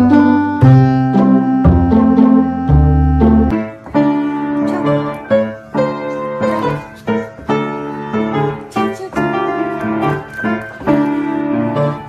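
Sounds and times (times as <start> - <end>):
piano notes and chords: 0.0 - 12.0.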